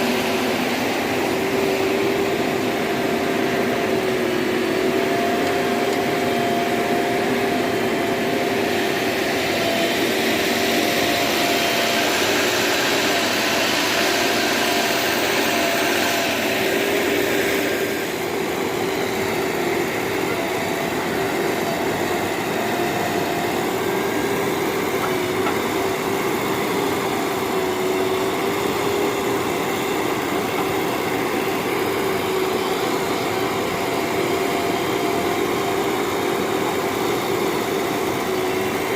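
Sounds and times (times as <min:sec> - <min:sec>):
steady whine: 0:00.0 - 0:38.9.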